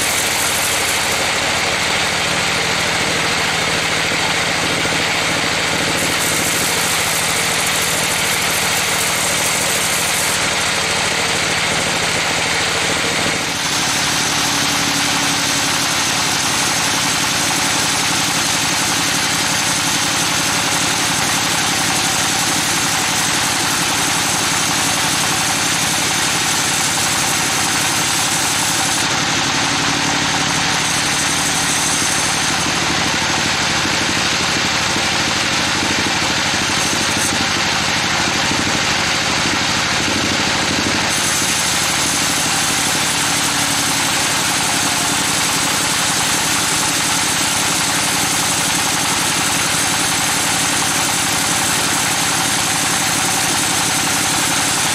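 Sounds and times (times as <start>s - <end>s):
saw blade cutting log: 0.0s - 54.9s
sawmill machine hum: 0.0s - 54.9s.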